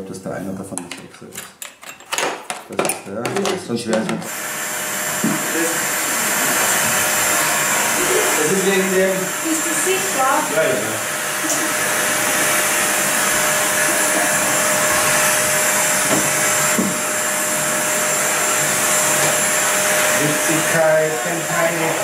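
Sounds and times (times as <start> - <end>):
small electric motor whining: 4.3 - 22.0.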